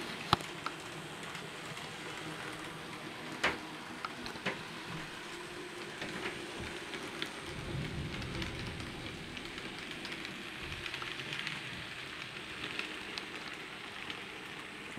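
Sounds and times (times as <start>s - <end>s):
model train wheels rattling: 0.4s - 14.9s.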